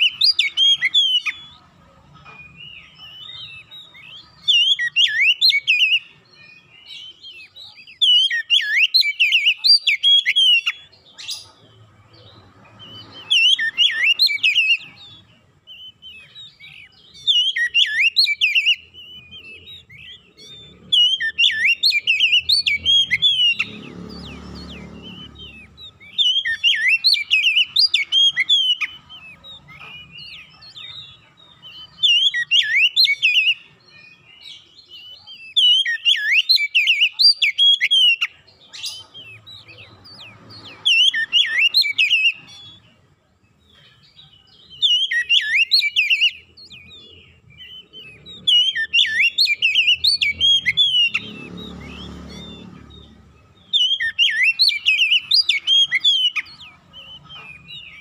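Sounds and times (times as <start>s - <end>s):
bird singing whistled phrases: 0.0s - 1.6s, 2.2s - 11.6s, 12.2s - 43.0s, 43.6s - 58.0s.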